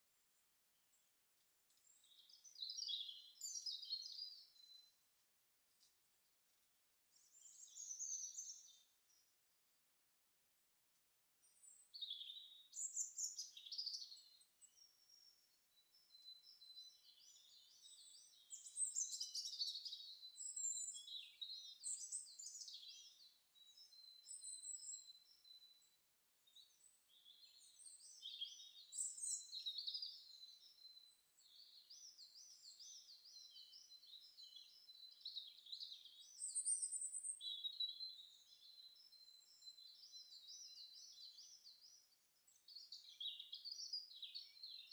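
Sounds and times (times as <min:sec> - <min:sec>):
songbirds chirping and singing: 0:00.9 - 0:09.8, 0:11.4 - 0:44.9.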